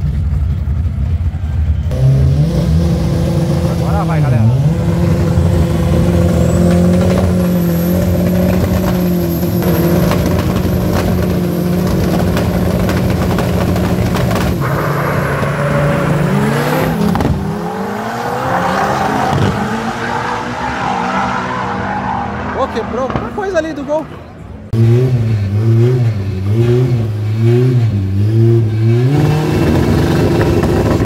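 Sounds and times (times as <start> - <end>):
drag car engines revving: 0.0 - 31.0.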